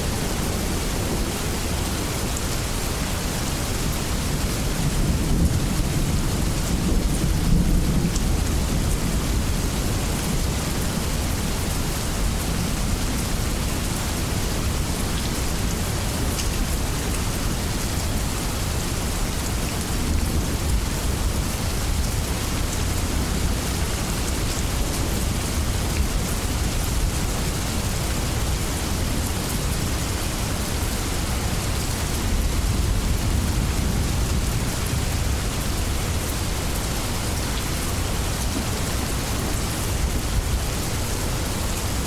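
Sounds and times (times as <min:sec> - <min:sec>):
heavy rain: 0:00.0 - 0:42.0.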